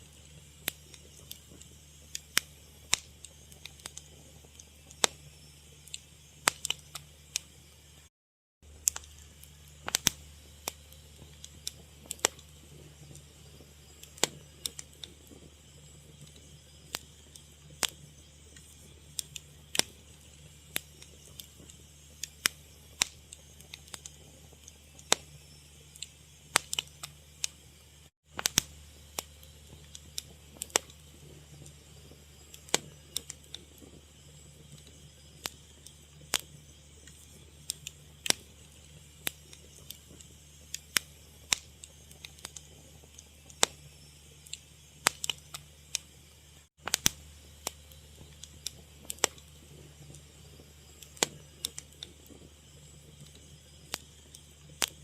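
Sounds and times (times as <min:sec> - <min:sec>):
fire crackling and popping: 0:00.0 - 0:55.0
low rumble and hiss: 0:08.7 - 0:55.0.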